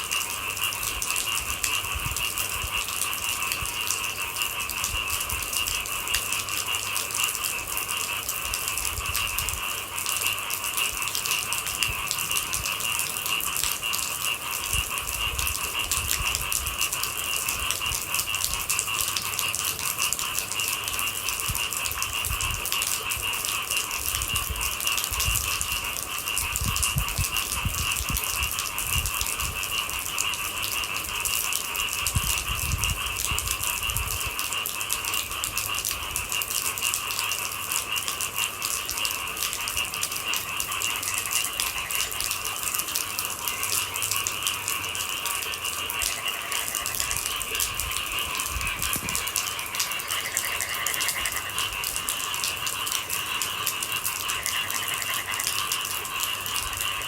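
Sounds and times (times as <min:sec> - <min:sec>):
night insects chirping: 0:00.0 - 0:57.0
steady rain falling: 0:00.0 - 0:57.0.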